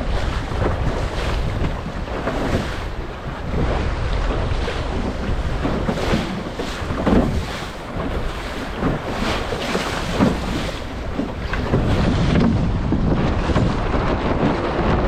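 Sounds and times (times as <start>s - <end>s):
water splashing against a hull: 0.0s - 15.0s
wind buffeting the microphone: 0.0s - 15.0s.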